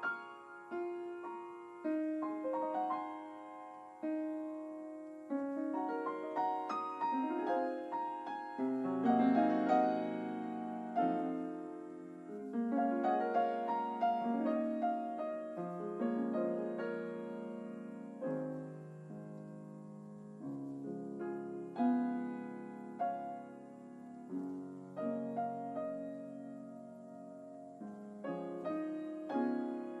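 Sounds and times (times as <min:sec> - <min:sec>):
gentle solo piano: 0:00.0 - 0:30.0.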